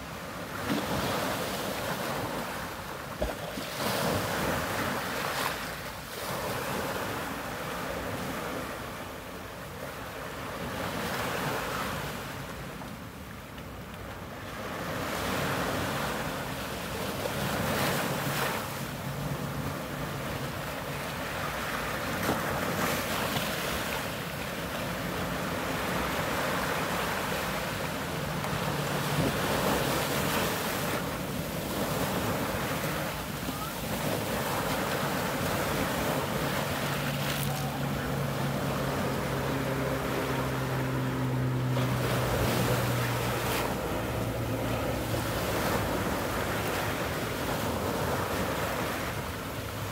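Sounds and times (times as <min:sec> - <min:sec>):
waves breaking over rocks: 0:00.0 - 0:49.9.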